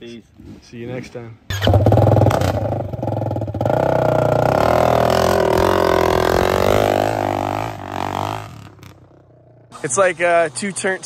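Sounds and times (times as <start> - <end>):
dirt bike engine revving: 1.5 - 11.0.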